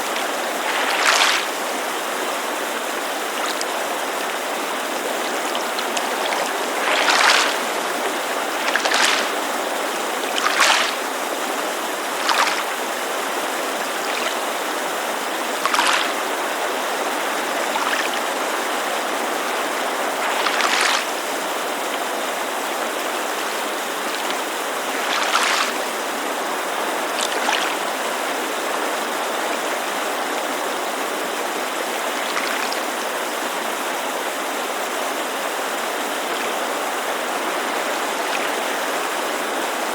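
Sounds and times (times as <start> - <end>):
mountain creek rushing: 0.0 - 39.9
small waves lapping at shore: 0.0 - 39.9.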